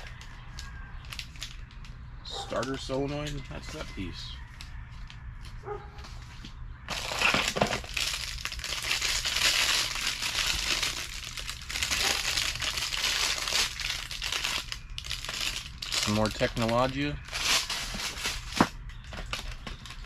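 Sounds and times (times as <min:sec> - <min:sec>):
packing material crinkling: 0:00.0 - 0:04.7, 0:06.9 - 0:20.0.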